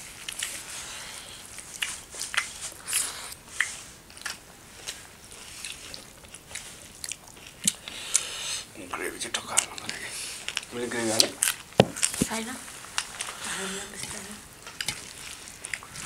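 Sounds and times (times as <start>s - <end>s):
chewing: 0.1s - 8.7s, 9.3s - 16.0s.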